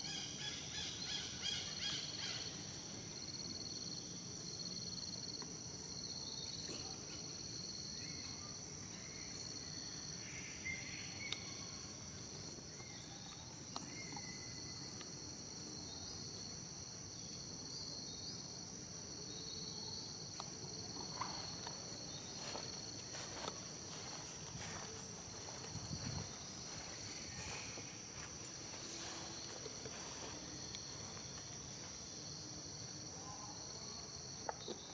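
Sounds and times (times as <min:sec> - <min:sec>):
insect chorus drone: 0:00.0 - 0:34.9.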